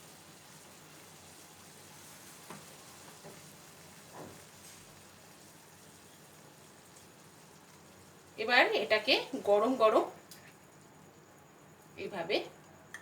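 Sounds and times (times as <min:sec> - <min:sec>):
curry bubbling in a pan: 0:00.0 - 0:12.9
faint hiss: 0:00.0 - 0:13.0.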